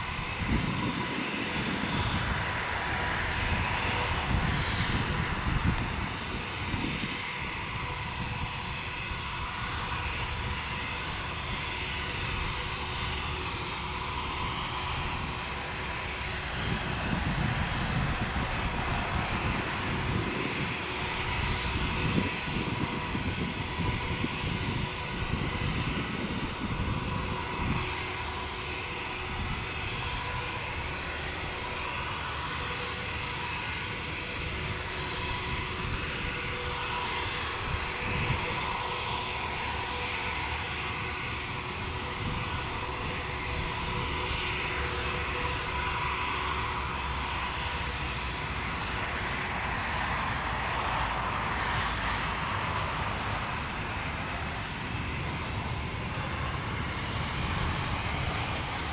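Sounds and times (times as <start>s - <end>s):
jet engines idling: 0.0s - 58.9s.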